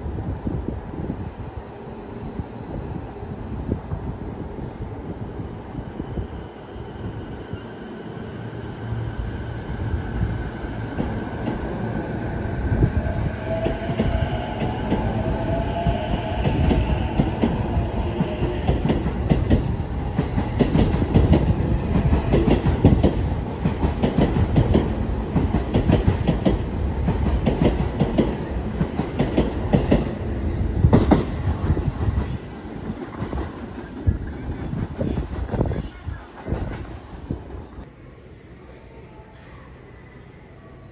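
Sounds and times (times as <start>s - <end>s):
low train rumble: 0.0s - 40.9s.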